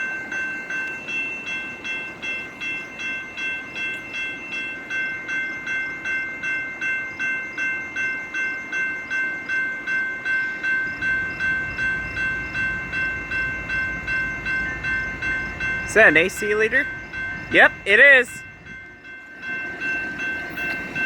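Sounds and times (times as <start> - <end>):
crossing bell ringing: 0.0 - 21.0
freight train rumble: 0.0 - 21.0.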